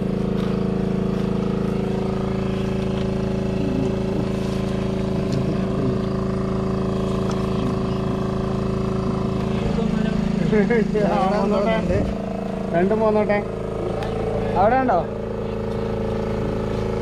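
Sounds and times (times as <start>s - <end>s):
water pump motor humming: 0.0s - 17.0s.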